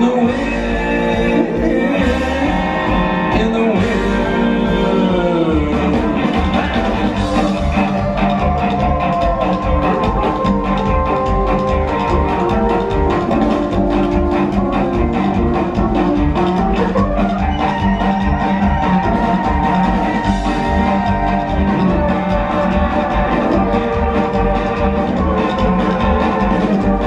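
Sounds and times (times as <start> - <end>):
drum kit: 0.0 - 27.0
electric guitar: 0.0 - 27.0
upright bass: 0.0 - 27.0.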